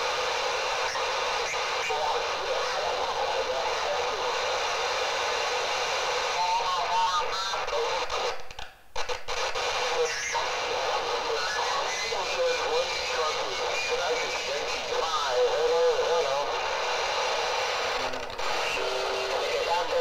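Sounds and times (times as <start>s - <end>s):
faint voice in static: 0.0s - 8.4s, 9.3s - 20.0s
radio static hiss: 0.0s - 20.0s.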